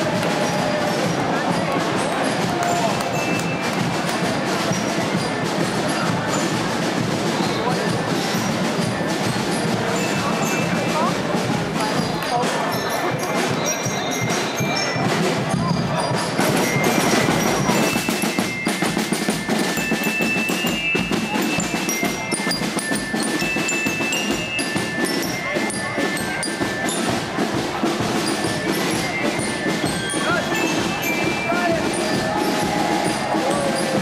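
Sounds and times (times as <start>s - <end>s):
crowd chatter: 0.0s - 34.0s
snare drums beating and rolling: 0.0s - 34.0s
high bell-like melody: 1.5s - 5.4s, 9.4s - 34.0s.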